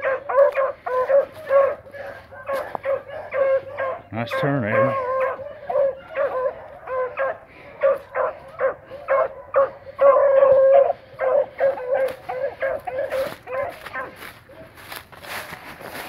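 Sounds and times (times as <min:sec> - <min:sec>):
beagles baying: 0:00.0 - 0:16.0.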